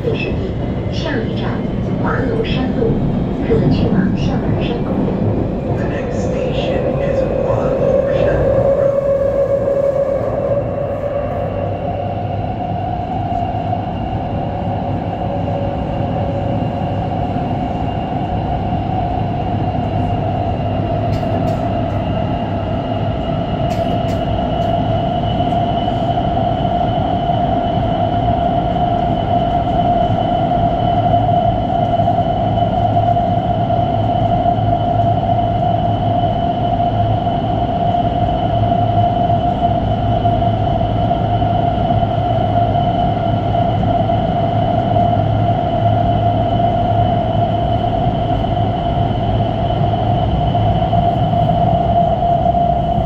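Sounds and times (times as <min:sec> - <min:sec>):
train rumbling with whine: 0:00.0 - 0:53.0.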